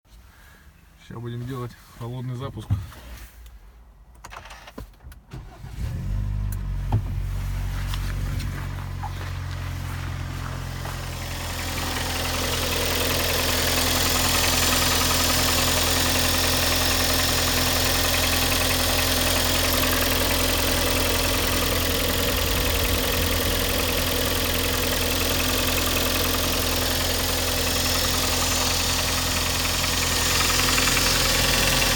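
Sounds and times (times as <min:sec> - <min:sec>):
car engine idling: 0:05.4 - 0:31.9.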